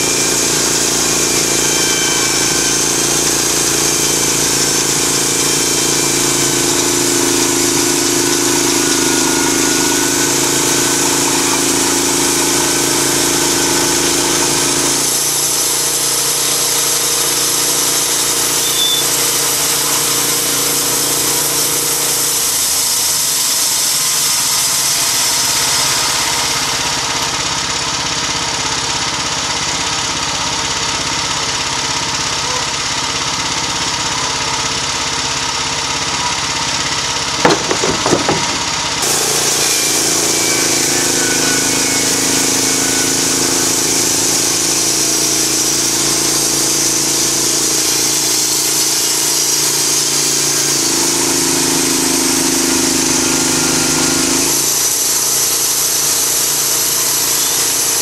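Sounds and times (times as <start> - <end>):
bandsaw mill engine running: 0.0 - 58.0.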